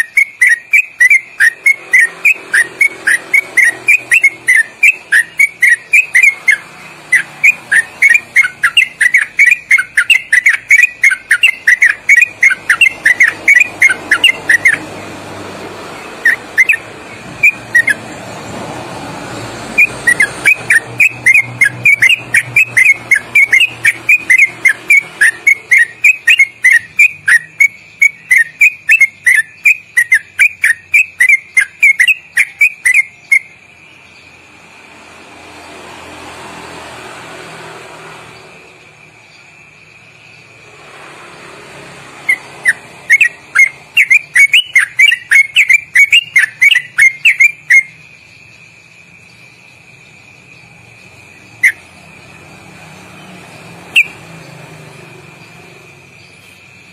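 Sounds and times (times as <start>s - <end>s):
bird singing whistled notes: 0.0s - 18.6s, 19.2s - 34.7s, 42.1s - 56.9s.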